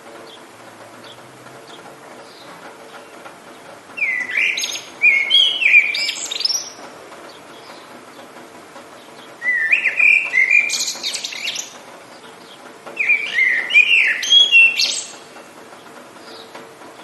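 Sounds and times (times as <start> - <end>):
songbird singing: 0.0 - 16.8.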